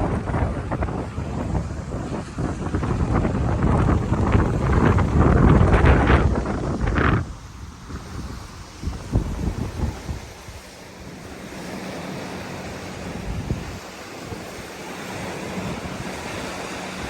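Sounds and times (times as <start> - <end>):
waves breaking on beach: 0.0 - 17.0
wind buffeting microphone: 0.0 - 17.0.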